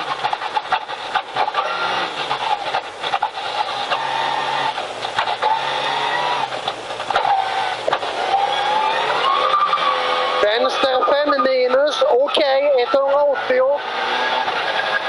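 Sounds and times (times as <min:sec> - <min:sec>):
gear downshift: 0:00.0 - 0:15.0
rally car engine running hard: 0:00.0 - 0:15.0.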